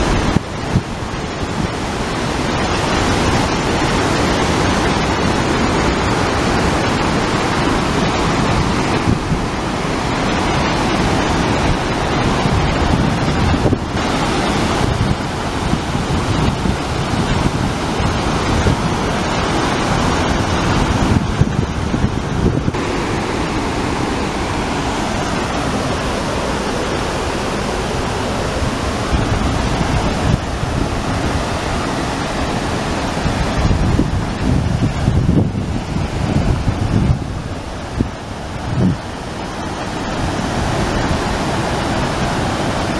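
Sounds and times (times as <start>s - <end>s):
waterfall rushing: 0.0s - 42.9s
wind buffeting microphone: 0.0s - 42.9s.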